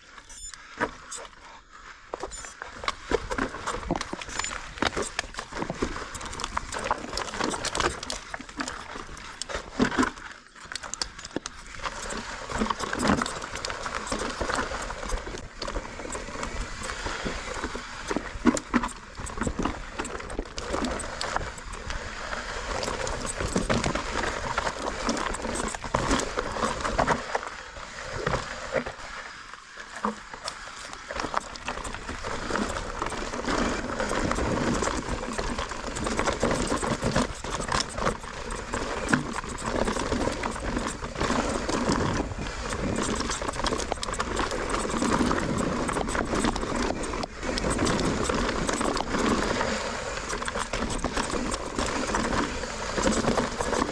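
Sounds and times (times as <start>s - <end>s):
bike rattling over rocks: 2.1s - 27.6s, 29.9s - 53.9s.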